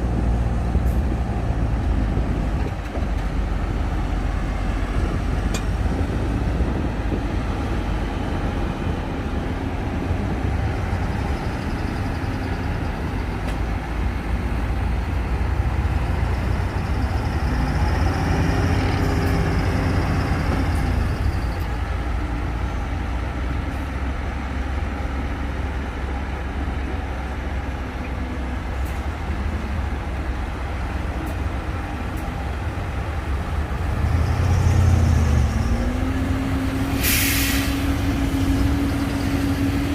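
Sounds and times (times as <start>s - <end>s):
heavy machinery diesel engine rumbling: 0.0s - 39.9s.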